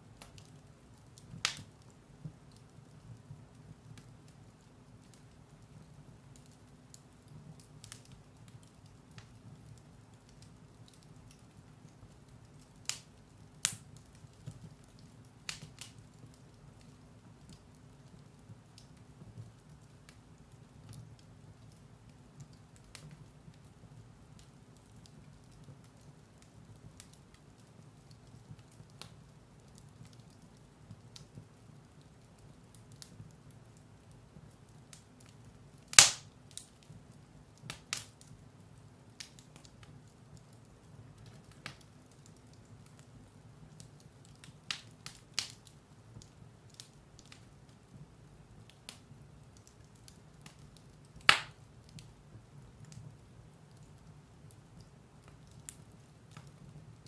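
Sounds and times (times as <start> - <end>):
faint low hiss: 0.0 - 57.0
firewood crackling and popping: 0.0 - 57.0.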